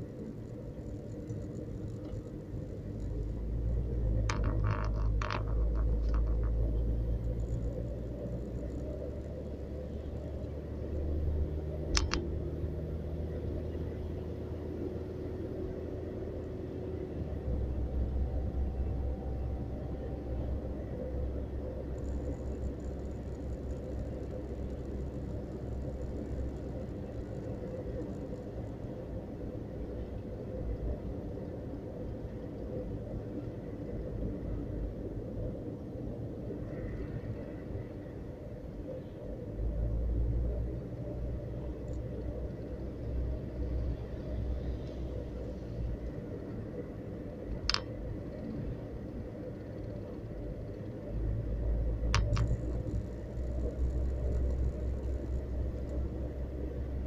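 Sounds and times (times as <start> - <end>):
car driving heard from inside: 0.0 - 57.0.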